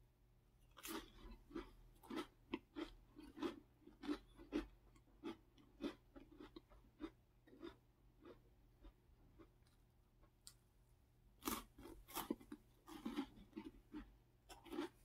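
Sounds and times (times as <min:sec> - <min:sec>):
cracker crunching while chewing: 0:00.6 - 0:10.6, 0:11.4 - 0:15.0.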